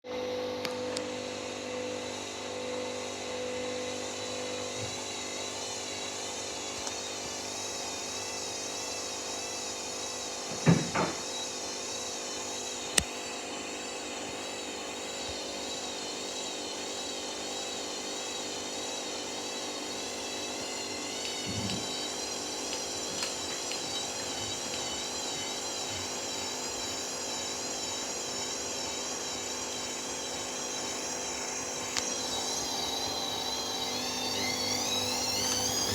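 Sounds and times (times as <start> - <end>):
washing machine motor whine: 0.0 - 35.9.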